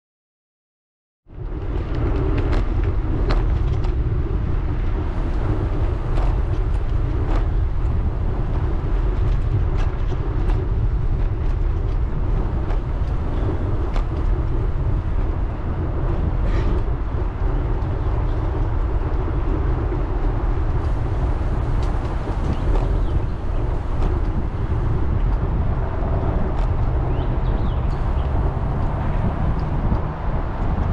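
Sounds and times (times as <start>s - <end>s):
bicycle tyres rumbling on bridge: 1.3s - 30.9s
wind rushing over microphone: 1.3s - 30.9s.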